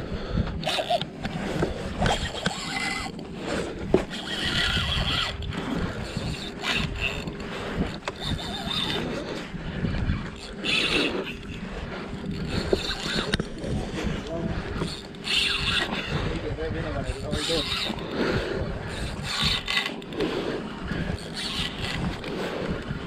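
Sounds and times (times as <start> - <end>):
water against boat: 0.0 - 23.0
wind: 0.0 - 23.0
fishing reel cranking: 0.1 - 23.0.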